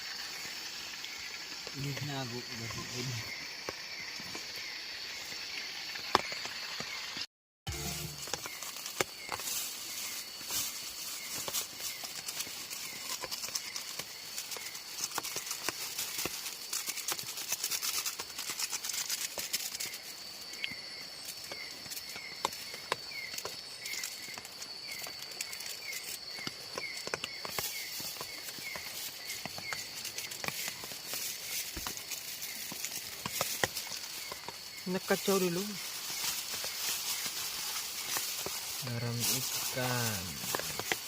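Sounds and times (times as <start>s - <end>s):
crackles and clicks in undergrowth: 0.0s - 41.0s
insect drone: 0.0s - 41.0s.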